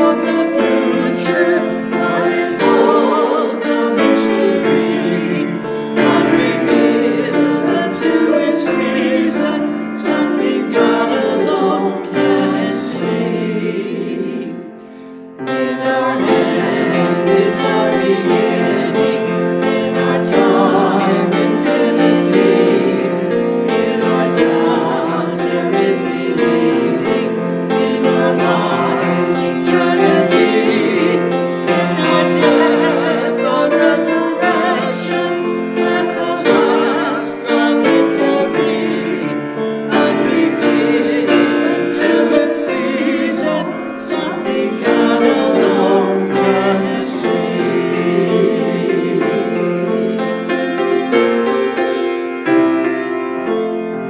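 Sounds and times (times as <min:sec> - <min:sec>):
group singing a hymn: 0:00.0 - 0:53.0
piano accompaniment: 0:00.0 - 0:54.0.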